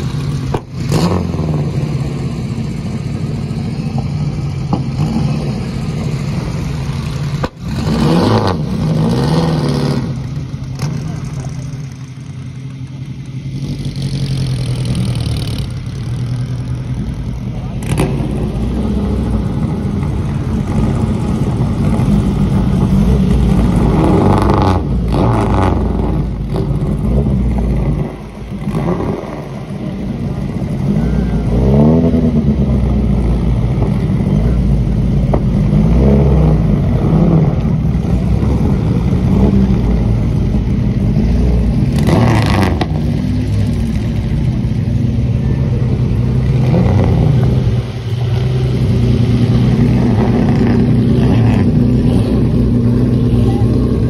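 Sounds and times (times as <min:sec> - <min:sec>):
racing car engines passing: 0:00.0 - 0:54.0.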